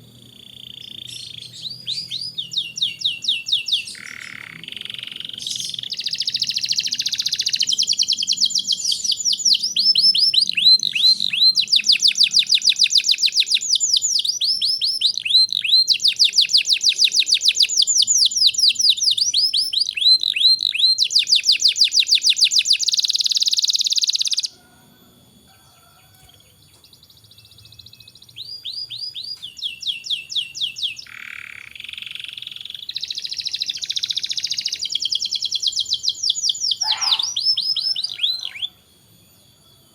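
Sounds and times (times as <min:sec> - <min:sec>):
canary singing trills: 0:00.2 - 0:24.6, 0:26.5 - 0:39.9.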